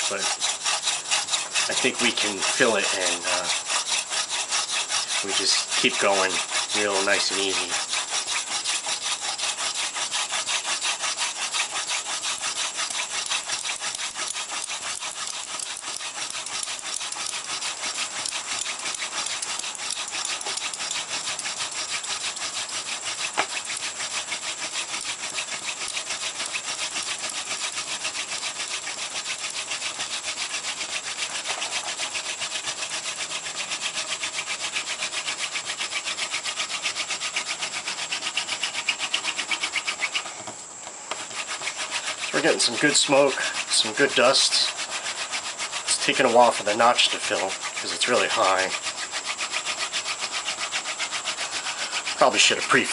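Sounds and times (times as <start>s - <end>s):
spindle rasping on wood: 0.0s - 40.5s, 41.1s - 52.9s.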